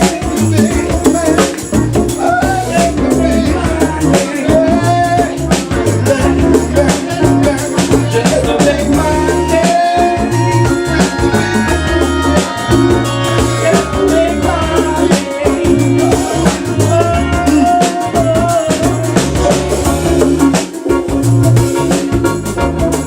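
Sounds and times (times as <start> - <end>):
bass guitar: 0.0 - 23.0
bending melody line: 0.0 - 23.0
drum kit groove: 0.0 - 23.0
live band instrumental: 0.0 - 23.0.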